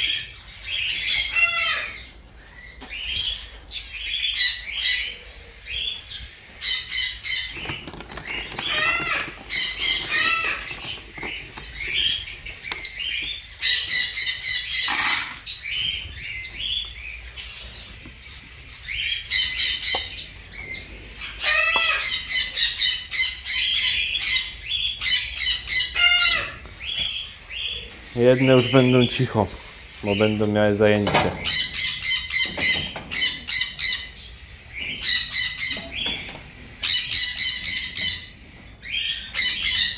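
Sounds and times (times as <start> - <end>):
parrots squawking: 0.0 - 2.1, 6.6 - 39.9.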